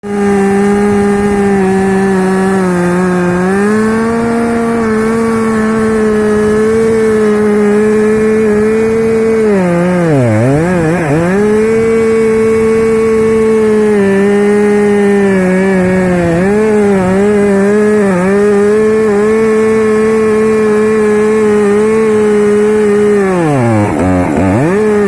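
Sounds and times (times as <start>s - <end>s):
chainsaw running at high revs: 0.0s - 25.0s.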